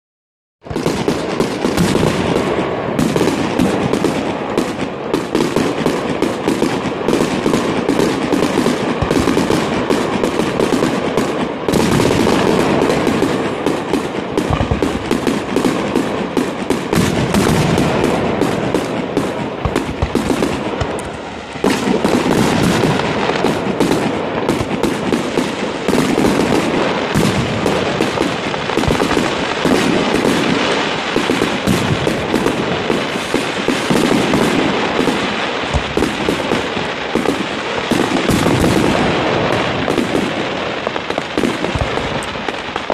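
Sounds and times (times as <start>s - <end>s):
fireworks bangs and crackling: 0.6s - 42.9s.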